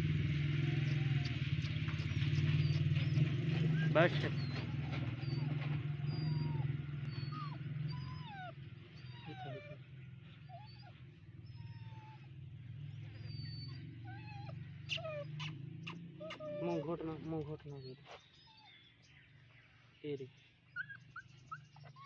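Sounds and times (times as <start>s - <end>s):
small birds chirping: 0.0s - 22.0s
puppy growling low: 0.6s - 18.9s.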